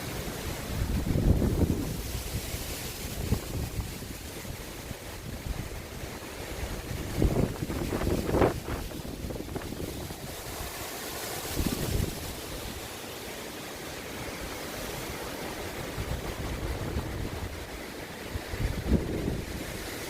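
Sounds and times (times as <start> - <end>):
wind buffeting microphone: 0.0 - 20.0
wind roaring: 0.0 - 20.0.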